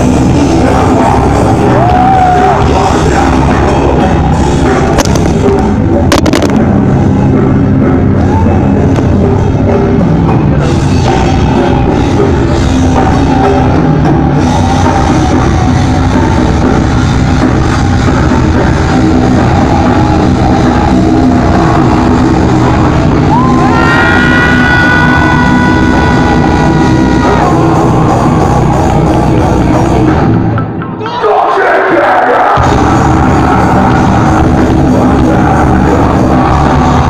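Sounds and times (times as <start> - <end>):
drum kit pounding: 0.0 - 30.8, 32.6 - 37.0
live rock band playing: 0.0 - 30.9
distorted guitars: 0.0 - 37.0.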